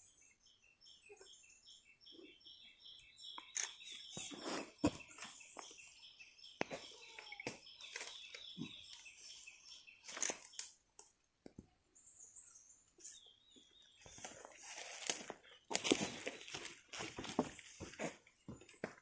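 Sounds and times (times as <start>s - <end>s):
faint bird chirping: 0.0s - 18.8s.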